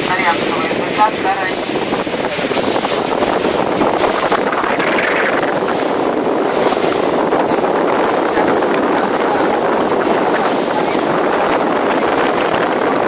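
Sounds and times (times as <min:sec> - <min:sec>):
motorboat engine: 0:00.0 - 0:13.0
rushing water: 0:00.0 - 0:13.0
wind buffeting microphone: 0:00.0 - 0:13.0.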